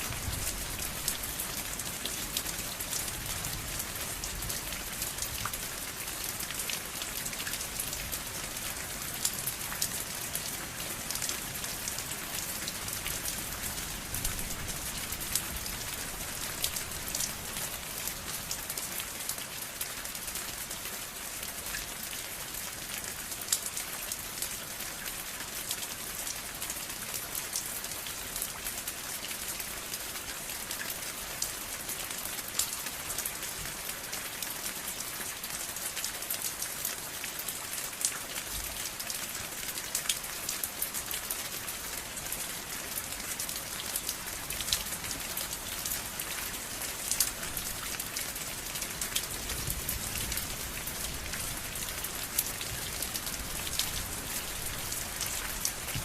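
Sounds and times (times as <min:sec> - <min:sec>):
rain pattering on surface: 0:00.0 - 0:56.0.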